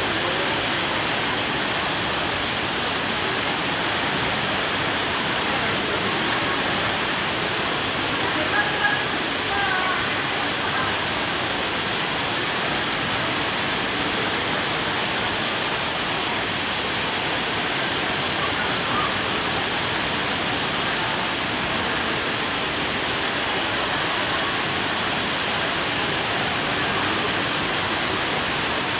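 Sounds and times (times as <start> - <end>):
falling water rushing: 0.0 - 28.9.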